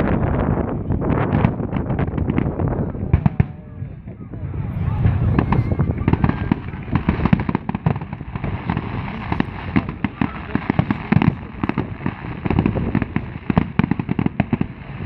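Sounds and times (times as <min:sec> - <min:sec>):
fireworks bangs and crackles: 0:00.0 - 0:15.0
low rumble of bursting shells: 0:00.0 - 0:15.0.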